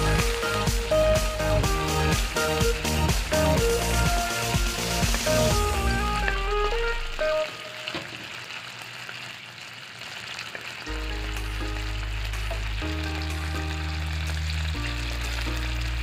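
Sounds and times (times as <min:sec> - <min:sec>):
background music low notes: 0:00.0 - 0:08.0, 0:10.9 - 0:16.0
sauce sizzling in a wok: 0:00.0 - 0:16.0.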